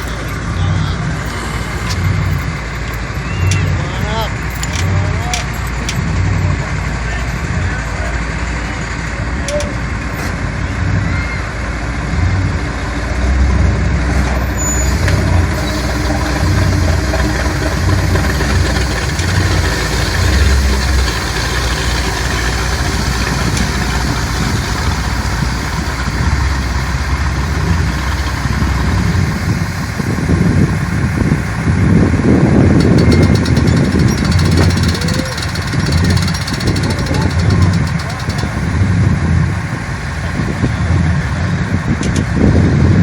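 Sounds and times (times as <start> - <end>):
engine idling: 0.0 - 43.0.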